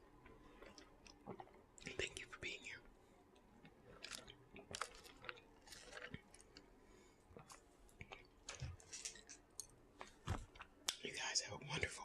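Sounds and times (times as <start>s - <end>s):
quiet chewing: 0.0s - 11.1s.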